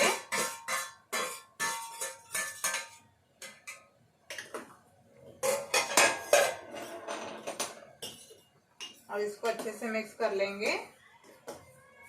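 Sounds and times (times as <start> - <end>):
metal utensils clinking on pot: 0.0 - 10.2.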